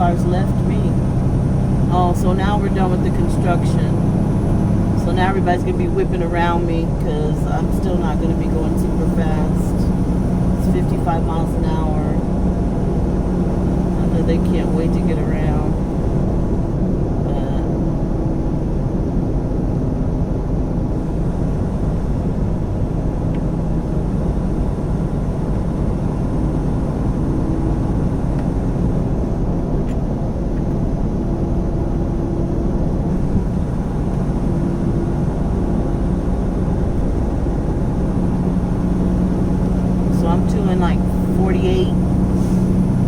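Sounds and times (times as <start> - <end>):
diesel truck engine drone: 0.0 - 43.0
road noise: 0.0 - 43.0.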